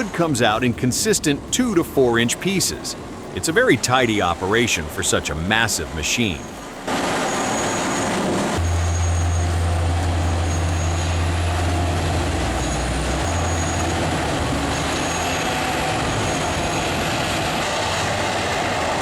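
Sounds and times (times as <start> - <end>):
machine engine deep drone: 0.0 - 19.0.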